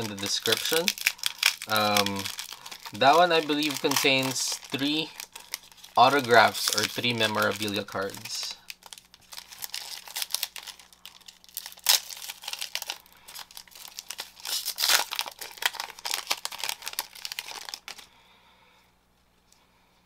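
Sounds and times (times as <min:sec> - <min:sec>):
plastic wrapper crinkling and tearing: 0:00.0 - 0:18.1.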